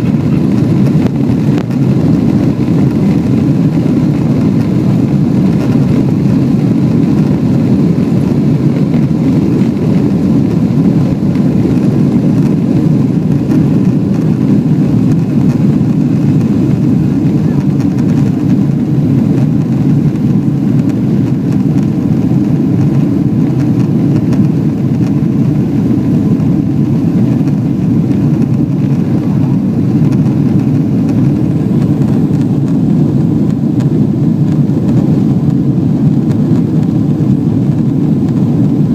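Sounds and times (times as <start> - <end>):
jet engines during takeoff: 0.0 - 38.9.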